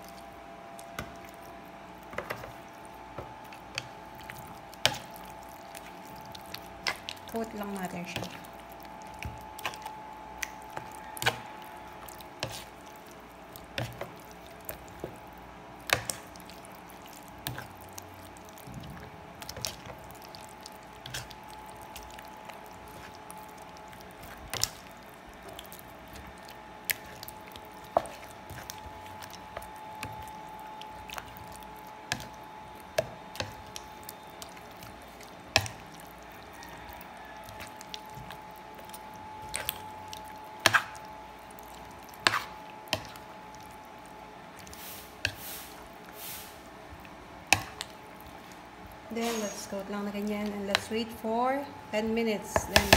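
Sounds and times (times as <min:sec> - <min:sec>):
faint steady hum: 0:00.0 - 0:52.9
wet squishing of batter: 0:00.0 - 0:52.9.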